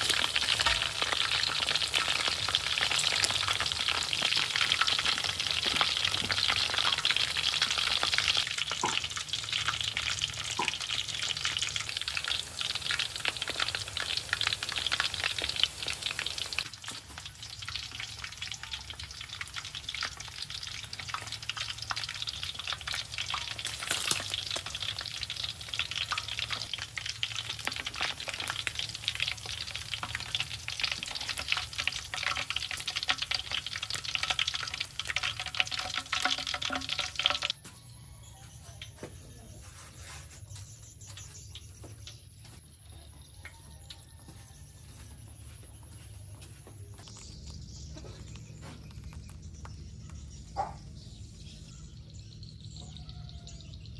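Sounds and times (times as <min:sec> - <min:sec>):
food deep-frying in oil: 0:00.0 - 0:53.9.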